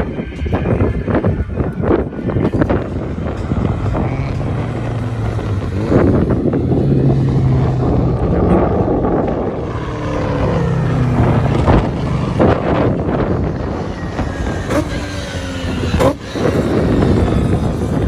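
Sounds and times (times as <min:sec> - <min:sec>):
race car engines: 0:00.0 - 0:18.0
wind noise on microphone: 0:00.0 - 0:18.0.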